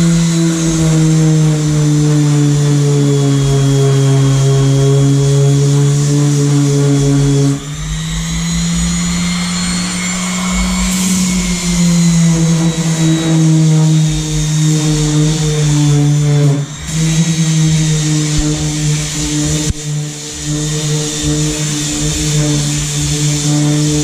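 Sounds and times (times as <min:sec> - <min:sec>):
electric power sander running: 0:00.0 - 0:24.0.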